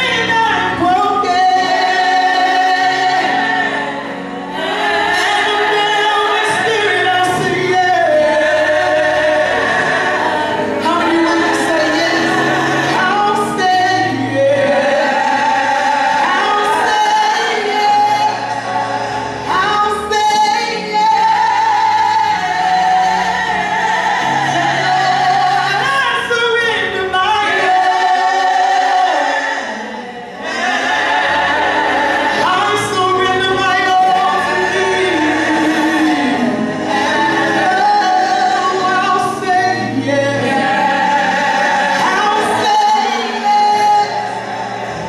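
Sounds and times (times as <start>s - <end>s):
women singing gospel: 0.0s - 45.0s.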